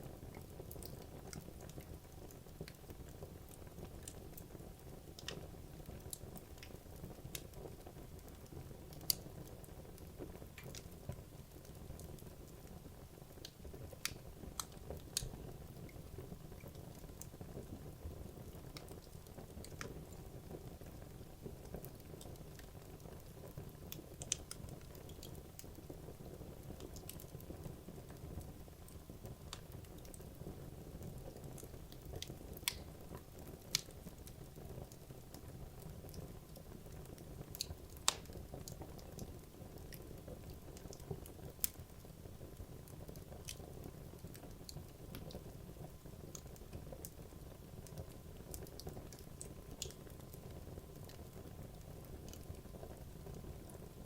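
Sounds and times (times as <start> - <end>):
wood crackling and popping: 0.0 - 54.0.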